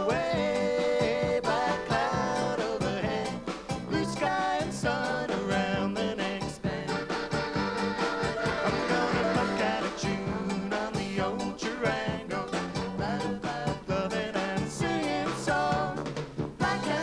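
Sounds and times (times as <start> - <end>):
man singing: 0.0 - 7.0, 8.6 - 15.8
live band playing: 0.0 - 17.0
steady drum beat: 0.0 - 17.0.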